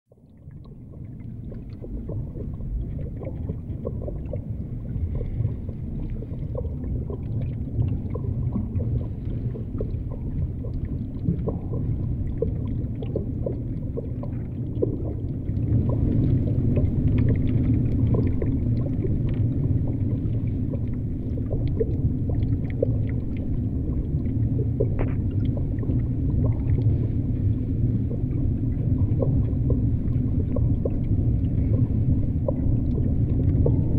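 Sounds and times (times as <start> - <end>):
low underwater rumble: 0.1 - 33.9
small underwater clicks: 0.4 - 27.0, 27.9 - 33.9.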